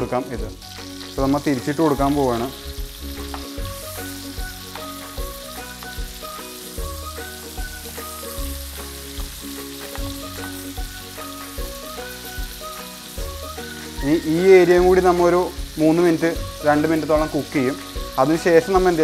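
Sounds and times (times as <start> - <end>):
background music with bass line: 0.0 - 19.0
steaks sizzling in a frying pan: 0.0 - 19.0.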